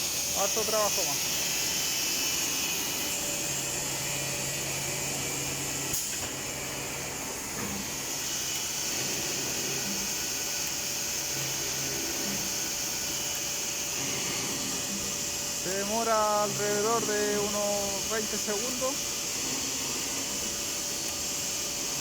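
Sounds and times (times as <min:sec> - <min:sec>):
machine high hiss and whine: 0:00.0 - 0:22.0.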